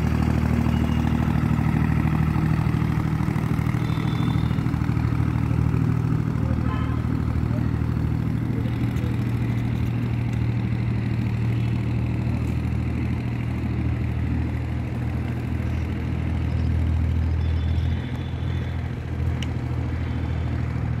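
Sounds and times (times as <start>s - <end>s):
motorboat engine drone: 0.0s - 21.0s.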